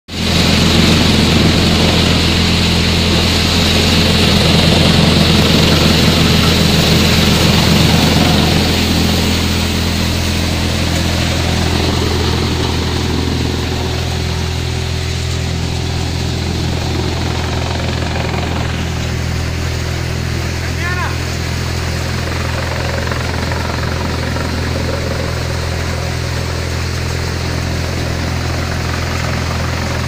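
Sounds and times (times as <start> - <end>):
threshing machine droning: 0.1 - 30.0.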